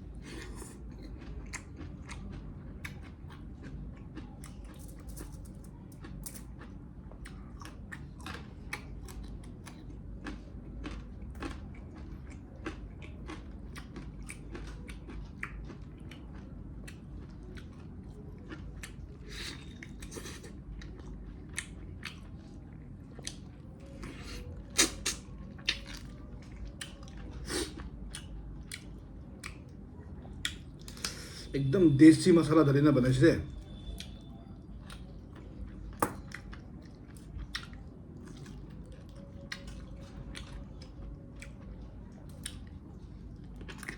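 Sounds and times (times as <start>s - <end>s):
person chewing meat: 0.0s - 31.5s, 33.6s - 43.9s.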